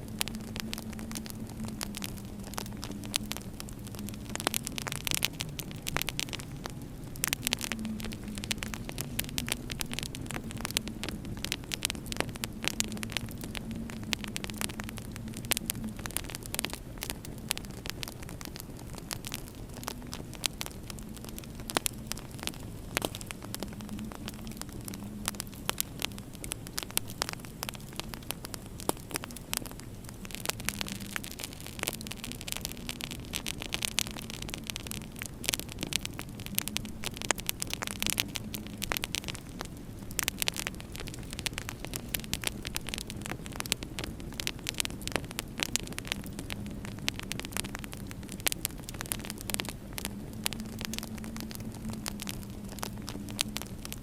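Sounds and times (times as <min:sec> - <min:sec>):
steady low hum: 0:00.0 - 0:54.0
wood fire crackling and popping: 0:00.0 - 0:54.0.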